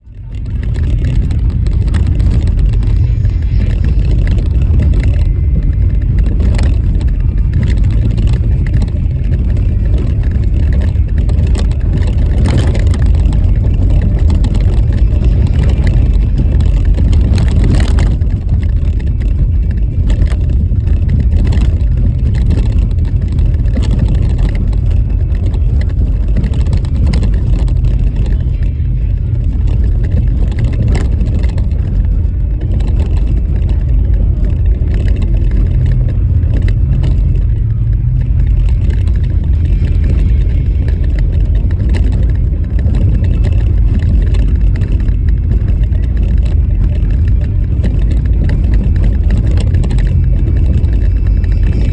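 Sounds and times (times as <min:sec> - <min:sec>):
car rumbling on snowy road: 0:00.0 - 0:51.9
knocks and rattles: 0:00.0 - 0:51.9.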